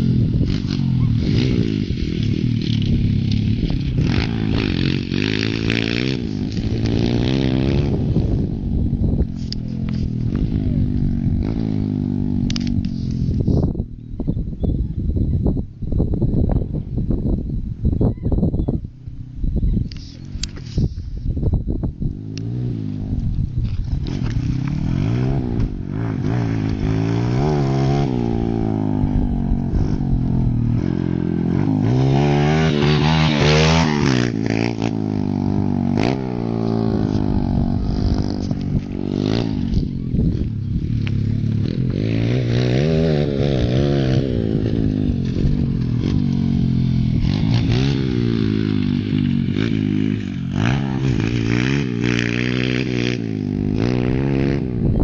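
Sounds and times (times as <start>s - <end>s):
pit bike engine revving: 0.0s - 13.9s, 22.0s - 55.0s.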